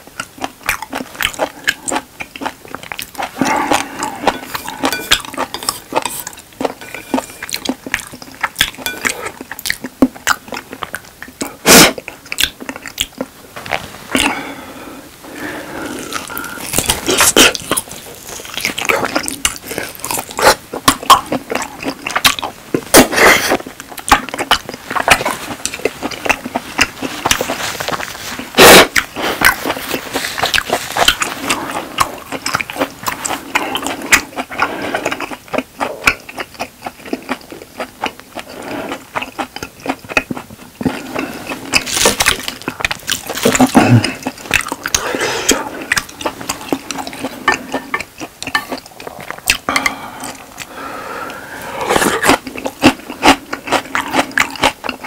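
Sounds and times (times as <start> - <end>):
chewing mouth sounds: 0.0 - 14.4, 15.4 - 55.0.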